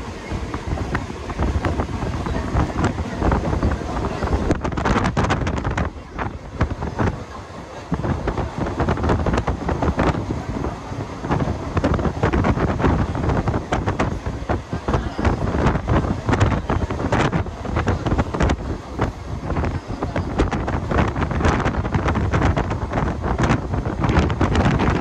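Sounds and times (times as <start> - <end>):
train coach rumble: 0.0 - 25.0
wind buffeting microphone: 0.0 - 25.0.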